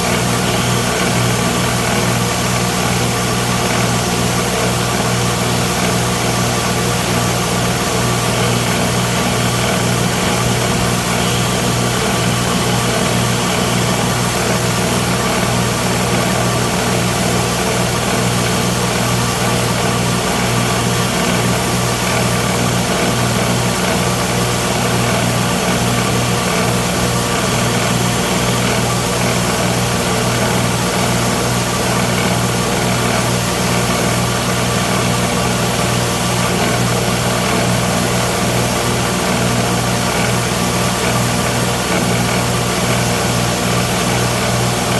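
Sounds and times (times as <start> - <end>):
belt grinder running: 0.0 - 44.9.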